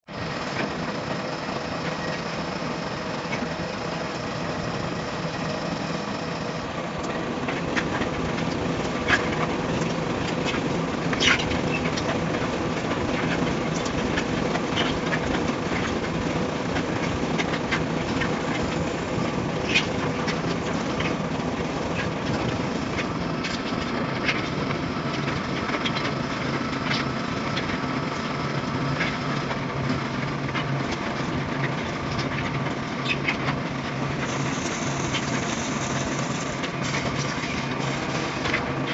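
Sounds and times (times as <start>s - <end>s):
concrete machinery hum and rumble: 0.0s - 38.9s.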